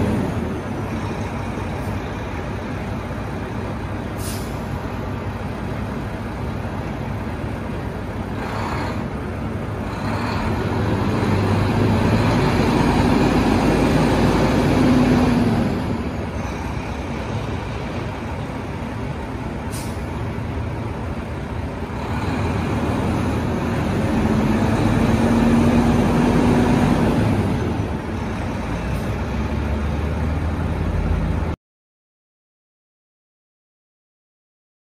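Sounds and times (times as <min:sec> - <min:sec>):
diesel truck engine running: 0:00.0 - 0:31.6.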